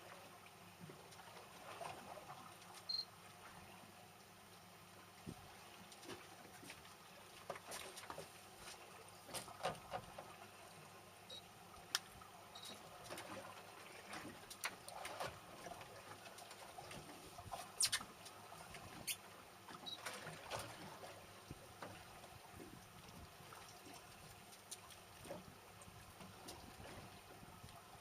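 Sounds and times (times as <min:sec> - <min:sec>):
water lapping and trickling: 0:00.0 - 0:28.0.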